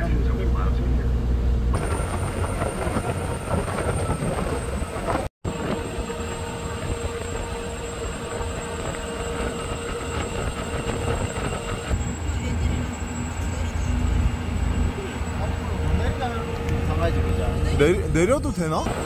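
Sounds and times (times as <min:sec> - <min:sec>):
ferry engine rumble and hum: 0:00.0 - 0:19.0.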